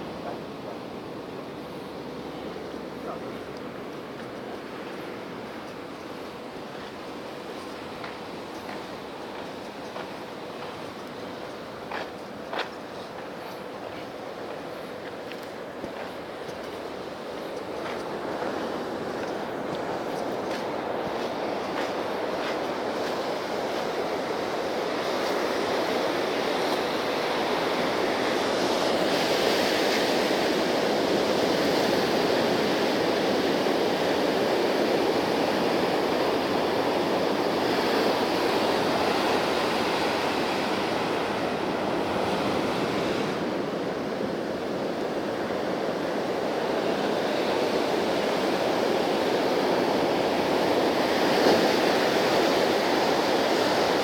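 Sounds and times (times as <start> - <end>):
ocean surf breaking on shore: 0.0 - 54.0.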